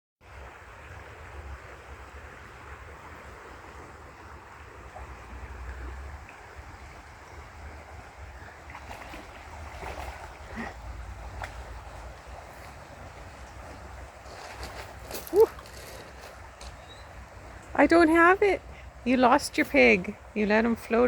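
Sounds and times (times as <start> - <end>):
creek water rushing: 0.2 - 21.0.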